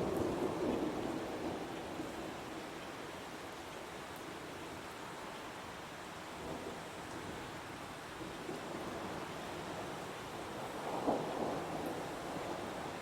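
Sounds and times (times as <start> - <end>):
heavy rain in a forest: 0.0 - 13.0.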